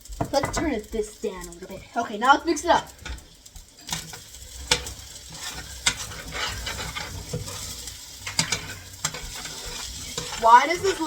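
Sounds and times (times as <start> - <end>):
rice sizzling in a pan: 0.0 - 11.0.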